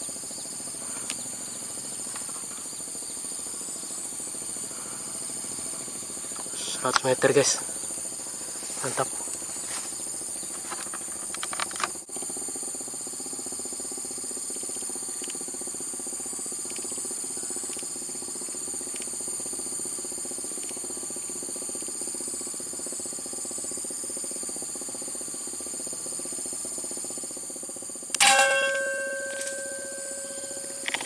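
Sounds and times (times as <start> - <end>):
insects droning: 0.0 - 31.0
steady low hum: 0.0 - 31.0.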